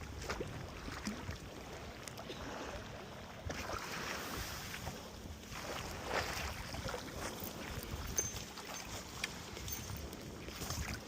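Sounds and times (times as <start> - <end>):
lake water lapping: 0.0 - 11.0
wind on microphone: 0.0 - 11.0.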